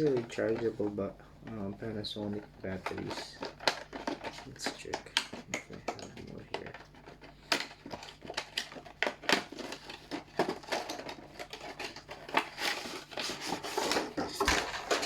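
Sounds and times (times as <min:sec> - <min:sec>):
batteries clicking and clattering: 0:00.0 - 0:15.0.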